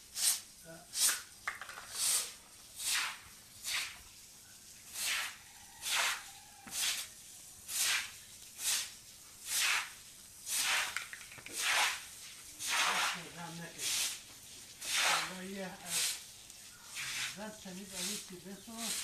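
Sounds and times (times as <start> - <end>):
broom sweeping wet concrete: 0.0 - 19.0.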